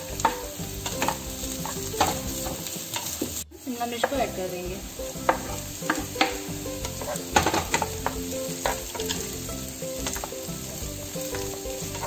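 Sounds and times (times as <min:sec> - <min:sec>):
spatula scraping a pan: 0:00.0 - 0:12.0
vegetables sizzling in oil: 0:00.0 - 0:12.0.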